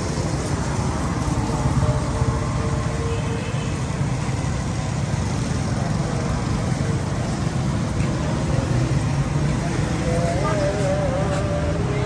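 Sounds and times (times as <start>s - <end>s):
cars passing on wet road: 0.0s - 12.0s.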